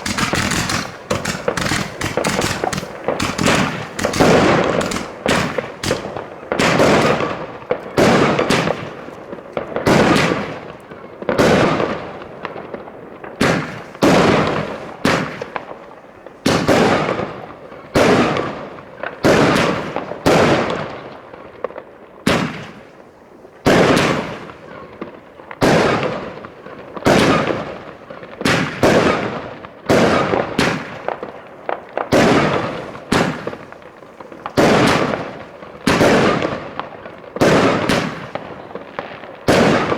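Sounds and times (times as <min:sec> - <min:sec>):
fireworks bangs: 0:00.0 - 0:23.0, 0:23.6 - 0:39.9.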